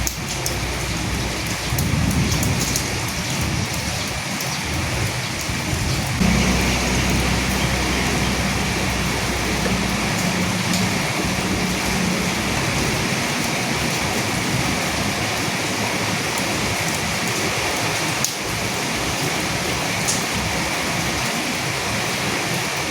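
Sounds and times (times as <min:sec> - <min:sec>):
rain falling on dead leaves: 0:00.0 - 0:22.9.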